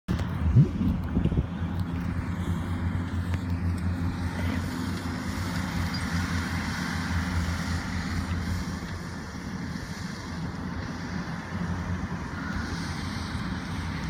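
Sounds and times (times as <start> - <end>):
engine humming steadily: 0.1 - 14.0.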